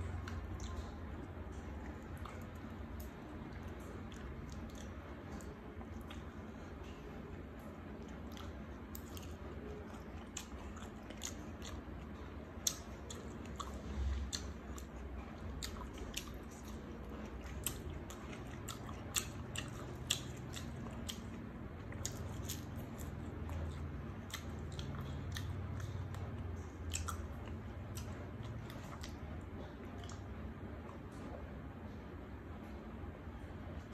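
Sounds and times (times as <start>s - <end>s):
mouth clicks and smacks: 0.0s - 31.3s
soft wet chewing: 0.0s - 33.9s.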